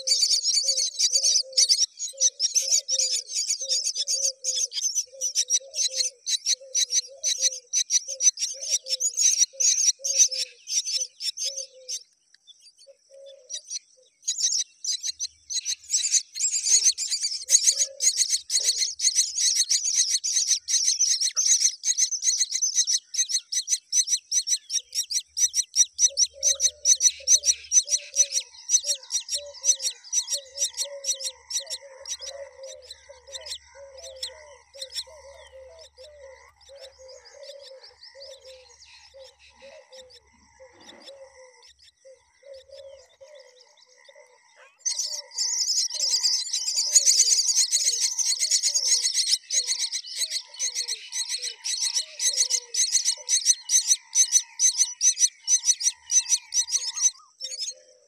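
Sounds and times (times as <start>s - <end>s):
nestlings chirping high-pitched: 0.0s - 58.0s
soft low repeated bird call: 0.0s - 58.0s.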